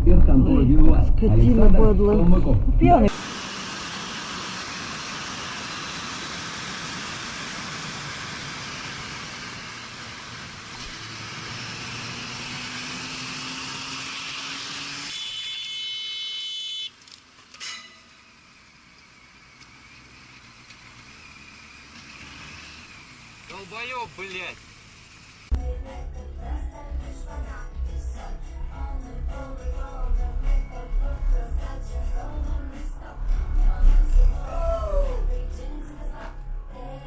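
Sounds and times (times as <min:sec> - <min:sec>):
car engine driving: 0:00.0 - 0:37.0.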